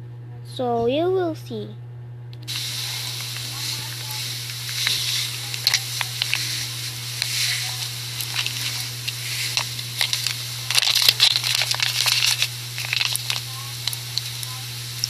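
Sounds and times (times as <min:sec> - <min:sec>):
steady low hum: 0:00.0 - 0:15.0
hissing crackling food sounds: 0:02.5 - 0:15.0.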